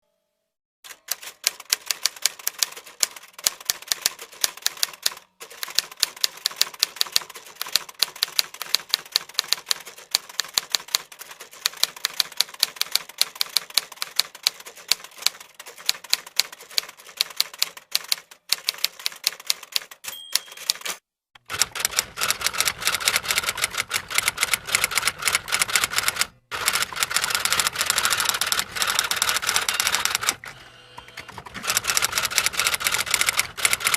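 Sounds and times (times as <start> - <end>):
typewriter keys clacking: 0.9 - 30.4, 31.2 - 33.9.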